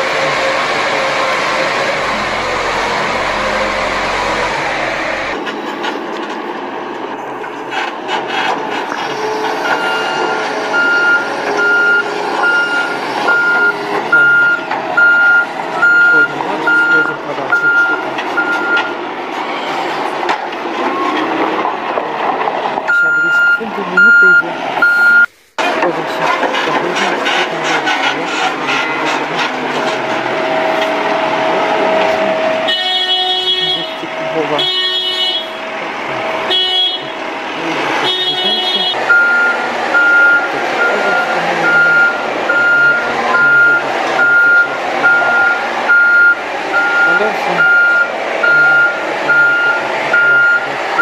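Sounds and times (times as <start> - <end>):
machine whine: 0.0 - 22.9, 23.7 - 51.0
diesel engine running: 0.0 - 51.0
loud mechanical machine noise: 0.0 - 51.0
reversing alarm beeping: 0.6 - 5.4, 9.1 - 19.0, 22.9 - 25.4, 26.2 - 51.0.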